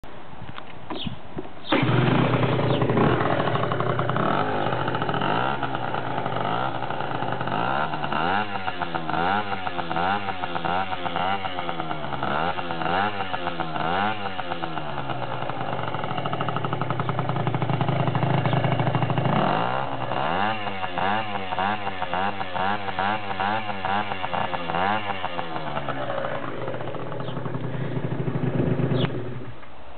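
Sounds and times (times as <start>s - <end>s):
scooter engine revving: 1.6s - 29.6s.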